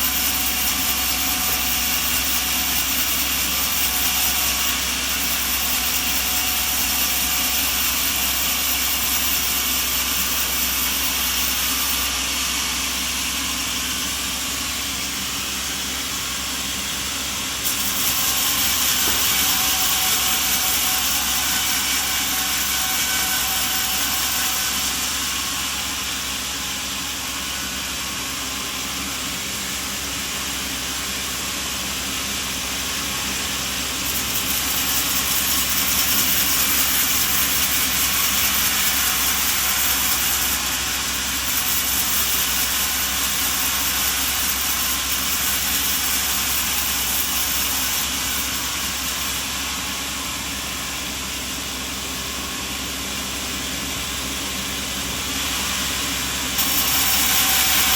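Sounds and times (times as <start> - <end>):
sawmill machinery hiss and hum: 0.0 - 57.9.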